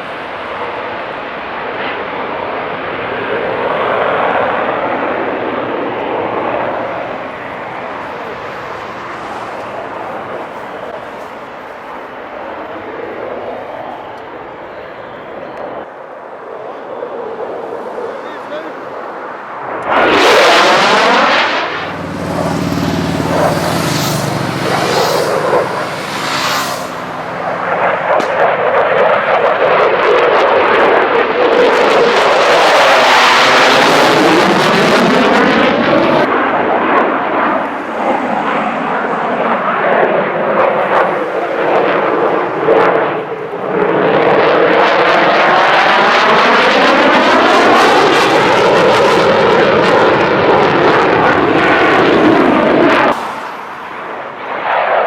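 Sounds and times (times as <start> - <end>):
fighter jet engine roaring past: 0.0 - 55.0.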